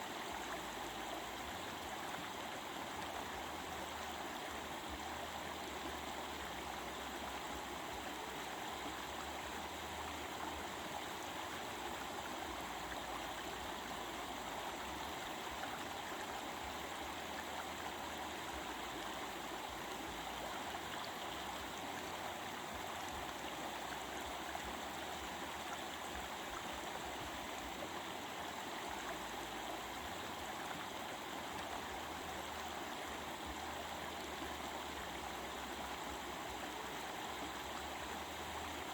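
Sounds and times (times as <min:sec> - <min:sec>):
stream babbling: 0:00.0 - 0:38.9.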